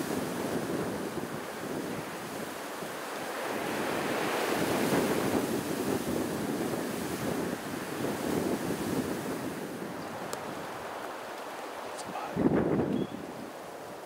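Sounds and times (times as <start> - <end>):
wind blowing over microphone: 0.0 - 14.0.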